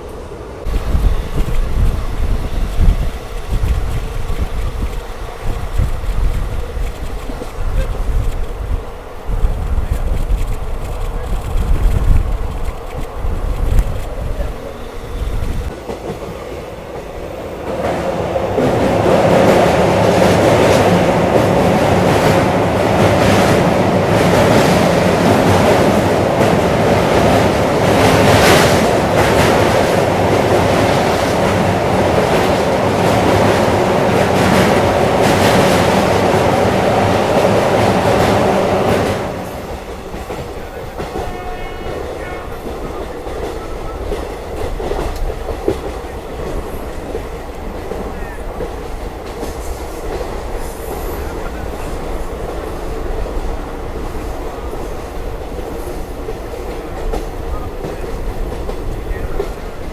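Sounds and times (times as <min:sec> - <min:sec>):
train wheels clattering over rails: 0:00.0 - 0:59.9.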